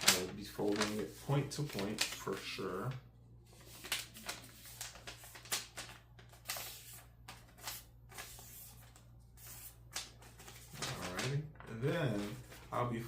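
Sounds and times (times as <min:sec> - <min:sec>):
paper crinkling and creasing: 0:00.0 - 0:13.0.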